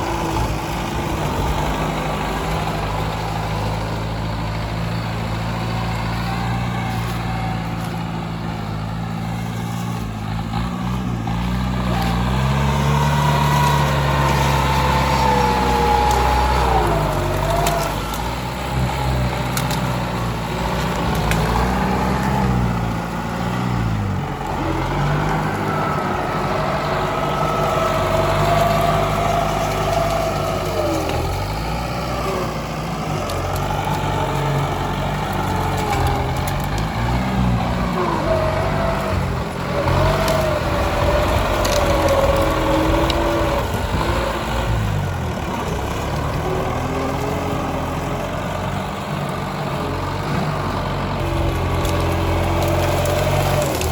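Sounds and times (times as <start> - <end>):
tractor engine working: 0.0 - 53.9.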